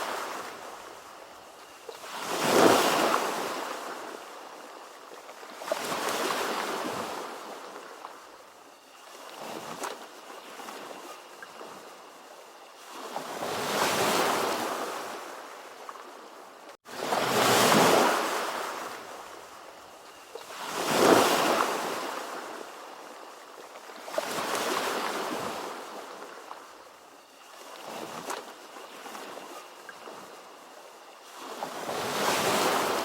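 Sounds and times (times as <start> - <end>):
ocean waves washing in: 0.0 - 19.8, 20.4 - 33.0.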